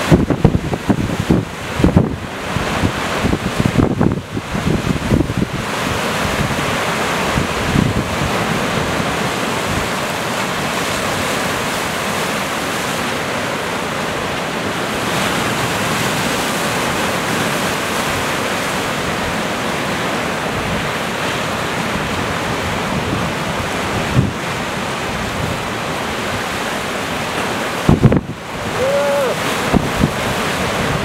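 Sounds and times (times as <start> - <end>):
wind blowing across microphone: 0.0 - 13.3, 14.8 - 31.0
sea surf breaking on rocks: 0.0 - 31.0.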